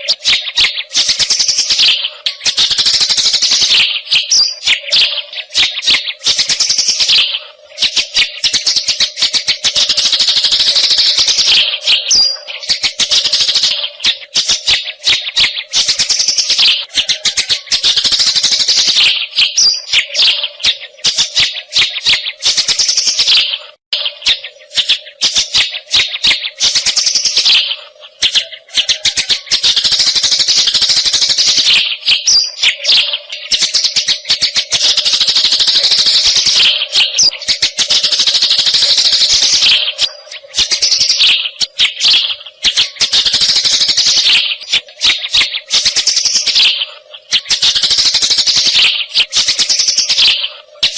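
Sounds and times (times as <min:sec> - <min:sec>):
sparrow chattering chirps: 0:00.0 - 0:50.9.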